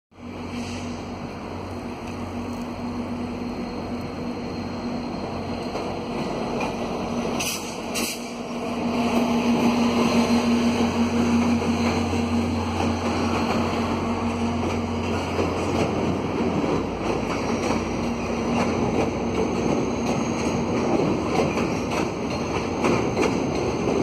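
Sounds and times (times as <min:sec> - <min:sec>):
diesel locomotive engine droning: 0:00.1 - 0:24.0.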